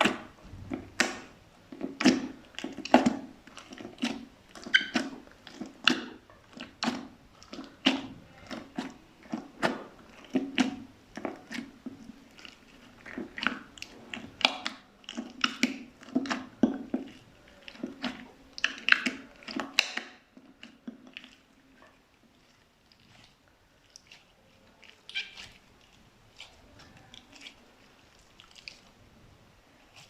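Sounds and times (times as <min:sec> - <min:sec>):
slime squelching: 0:00.0 - 0:30.0.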